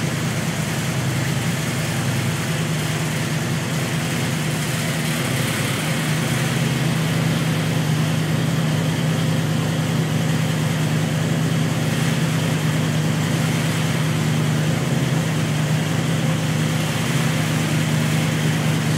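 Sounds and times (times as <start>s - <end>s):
car engine running steadily: 0.0s - 18.9s.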